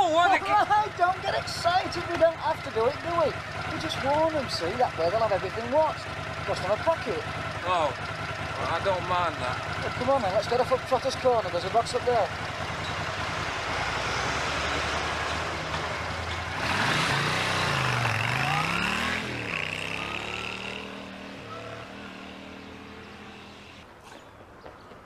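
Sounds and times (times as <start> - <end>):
small motorcycle engine accelerating: 1.0 - 23.8.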